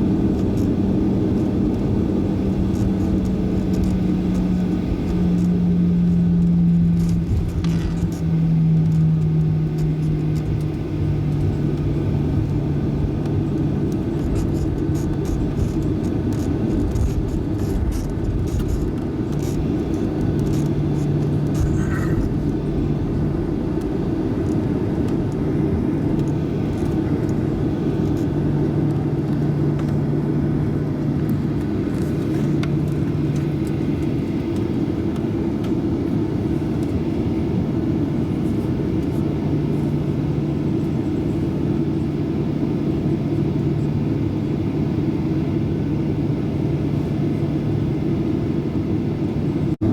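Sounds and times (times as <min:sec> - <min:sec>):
jet engines droning: 0:00.0 - 0:49.9.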